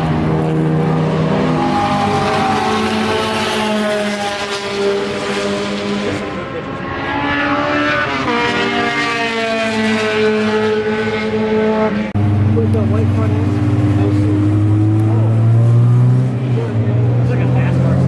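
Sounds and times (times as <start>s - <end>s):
race car engines at high revs: 0.0s - 18.0s.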